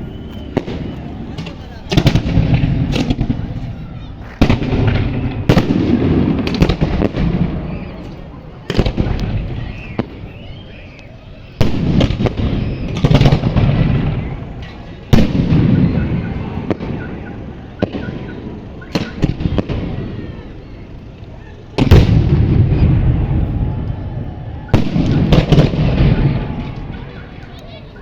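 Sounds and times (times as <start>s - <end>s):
fireworks bangs with rumbling echo: 0.0s - 27.9s.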